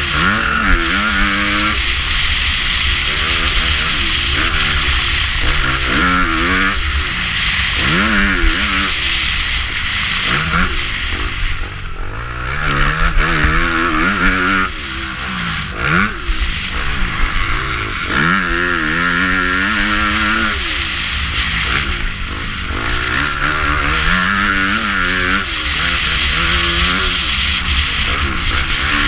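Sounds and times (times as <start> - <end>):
motocross bike engine revving: 0.0 - 29.0.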